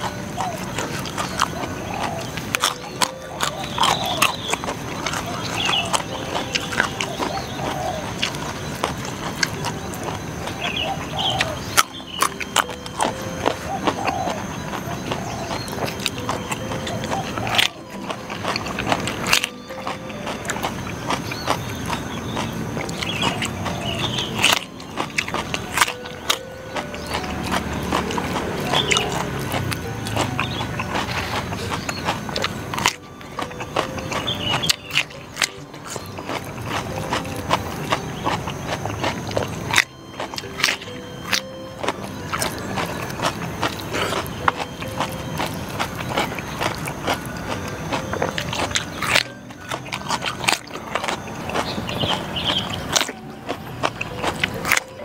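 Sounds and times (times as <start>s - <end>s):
crunching and chewing raw vegetable: 0.0s - 55.0s.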